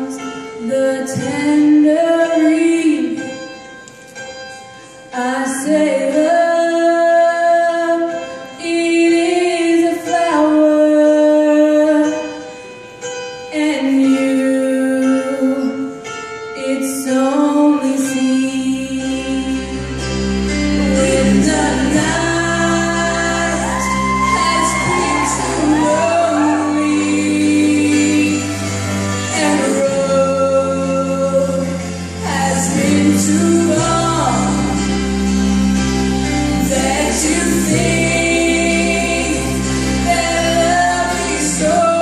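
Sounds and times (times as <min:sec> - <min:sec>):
woman singing into a microphone: 0:00.0 - 0:03.4, 0:05.1 - 0:12.5, 0:13.4 - 0:35.0, 0:36.6 - 0:42.0
instrumental accompaniment: 0:00.0 - 0:42.0.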